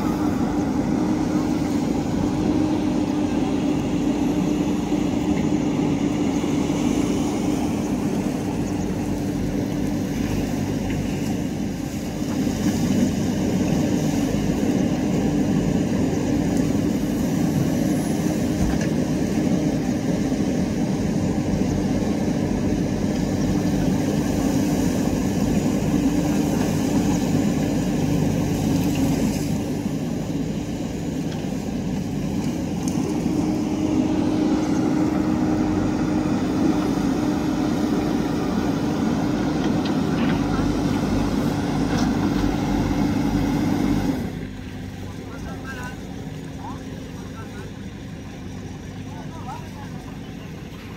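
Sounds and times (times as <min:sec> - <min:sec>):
diesel engine under load: 0:00.0 - 0:50.9.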